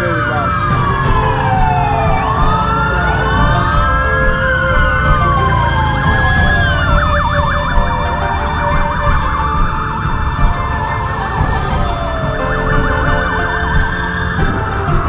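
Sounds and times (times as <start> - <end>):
emergency vehicle sirens: 0.0 - 15.0.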